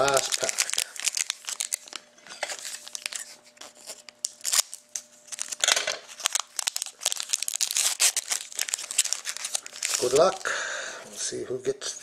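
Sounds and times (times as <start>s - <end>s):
wrapper rustle: 0.0s - 10.5s
foil wrapper crinkling: 0.0s - 10.6s.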